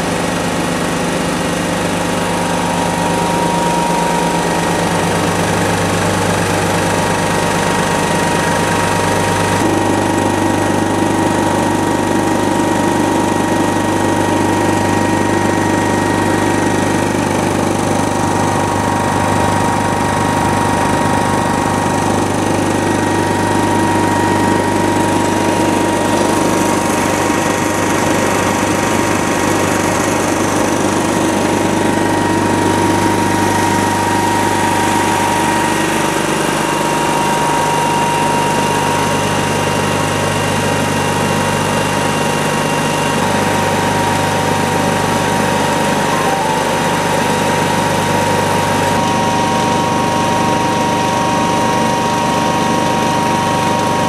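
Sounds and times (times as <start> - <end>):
air compressor hum: 0.0 - 54.0
thin steady whine: 1.8 - 54.0.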